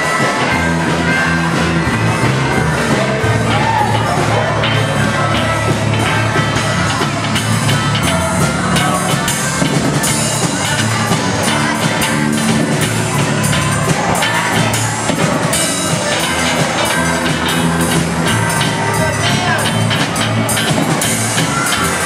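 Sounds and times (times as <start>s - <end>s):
drum kit beat: 0.0s - 22.0s
electric bass: 0.0s - 22.0s.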